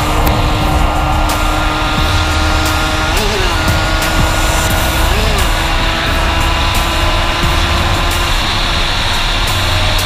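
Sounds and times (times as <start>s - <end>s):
music playing: 0.0s - 10.0s
two-stroke motorcycle engine: 0.0s - 10.0s
wind on microphone: 0.0s - 10.0s.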